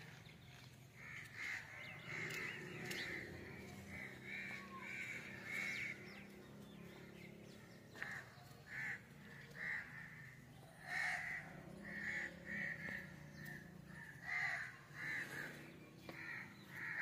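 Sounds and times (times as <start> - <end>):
crows cawing: 0.9 - 17.0.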